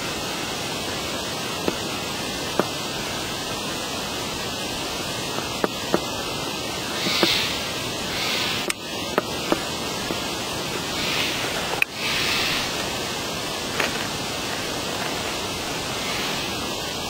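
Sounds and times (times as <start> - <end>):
rushing hiss of background noise: 0.0 - 17.0.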